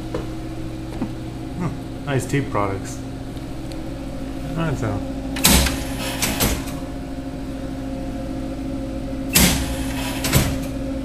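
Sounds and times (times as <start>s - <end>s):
vending machine electrical hum: 0.0s - 11.0s.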